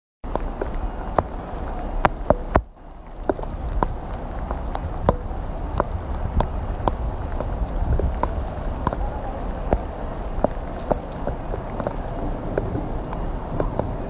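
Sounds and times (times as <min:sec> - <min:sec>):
rain: 0:00.2 - 0:14.0
wind rumble on microphone: 0:00.2 - 0:14.0
raindrops tapping: 0:00.3 - 0:14.0.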